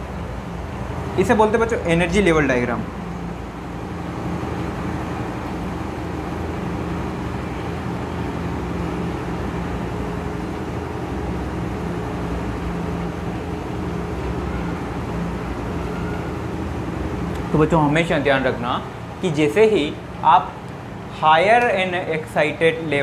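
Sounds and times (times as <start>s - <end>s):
low drone: 0.0s - 21.2s
steady background hum: 0.0s - 23.0s.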